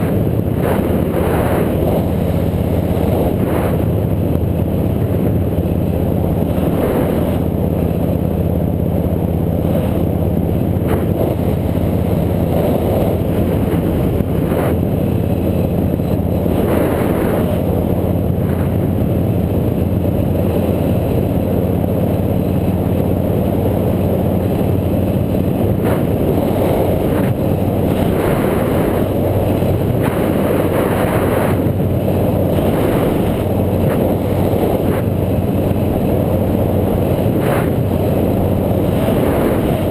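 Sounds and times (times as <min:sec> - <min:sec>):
motorbike engine running: 0:00.0 - 0:39.9
road and wind noise: 0:00.0 - 0:39.9.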